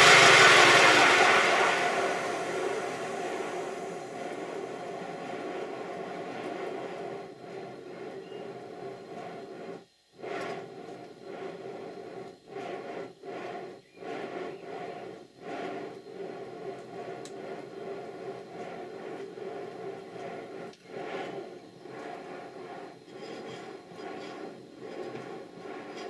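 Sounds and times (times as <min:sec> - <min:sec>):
model locomotive engine running: 0:00.0 - 0:26.0.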